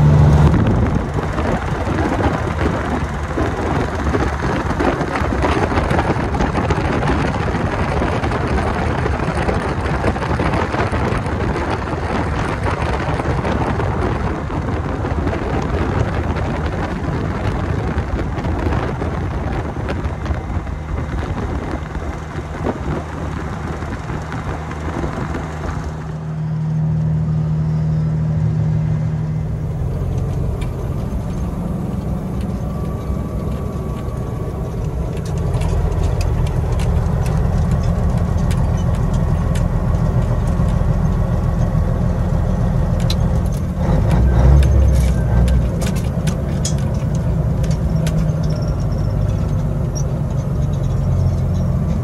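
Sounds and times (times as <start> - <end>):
truck diesel engine drone: 0.0 - 52.0.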